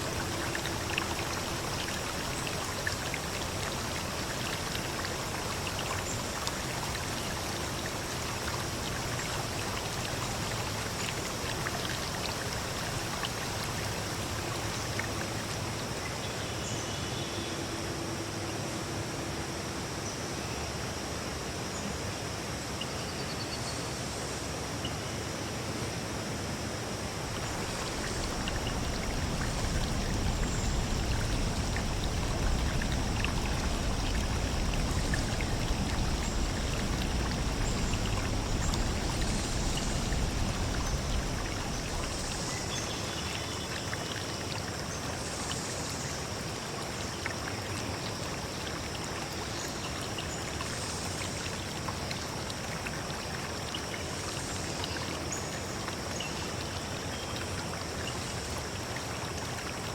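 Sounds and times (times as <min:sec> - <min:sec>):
running water rushing: 0:00.0 - 0:20.0, 0:25.7 - 0:59.9.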